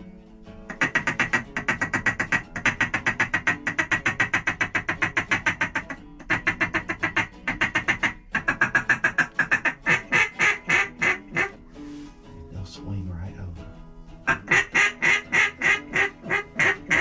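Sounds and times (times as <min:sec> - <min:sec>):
duck call quacking: 0:00.7 - 0:11.6, 0:14.2 - 0:17.0.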